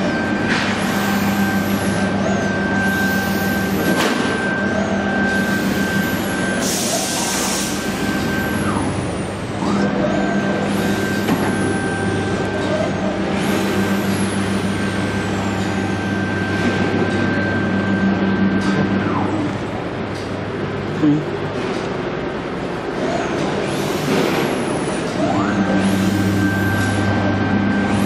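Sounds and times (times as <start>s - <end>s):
plasma cutter hum and whine: 0.0s - 19.8s, 23.0s - 28.0s.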